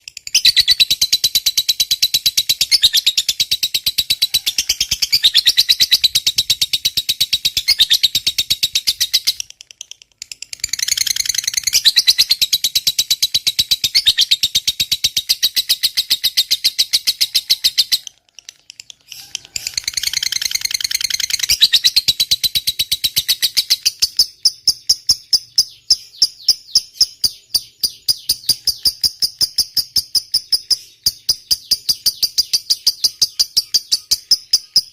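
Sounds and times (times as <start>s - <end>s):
lovebird shrill chatter: 0.2s - 9.6s, 10.3s - 34.9s.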